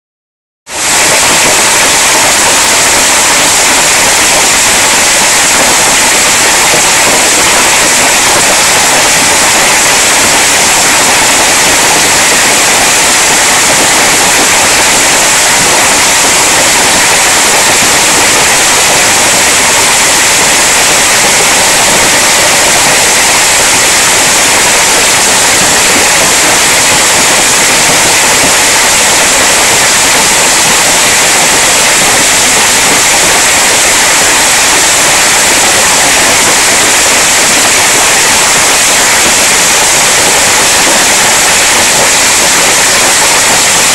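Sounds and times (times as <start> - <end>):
hail on plastic roof: 0.7 - 43.9.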